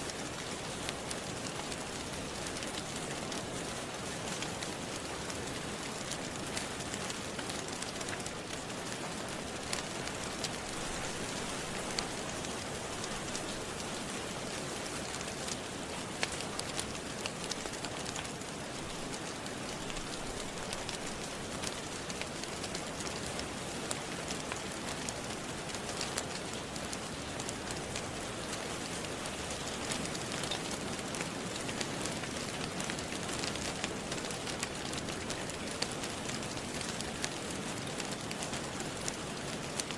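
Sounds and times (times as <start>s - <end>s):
steady rain hiss: 0.0s - 39.9s
wood fire crackling: 0.1s - 39.9s.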